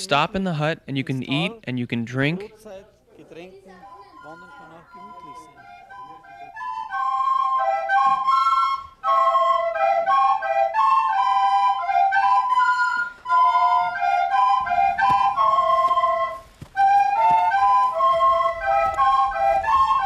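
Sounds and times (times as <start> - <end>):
children playing recorders: 3.6 - 20.0.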